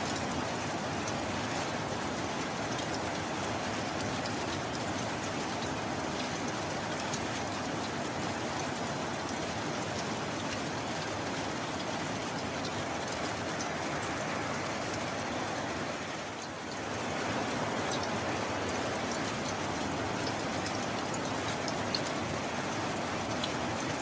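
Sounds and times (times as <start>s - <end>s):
raindrop ticks: 0.0s - 15.3s, 16.2s - 24.0s.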